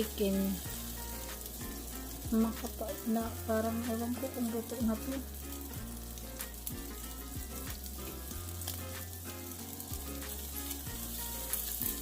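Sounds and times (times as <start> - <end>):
meat sizzling with pops: 0.0 - 12.0.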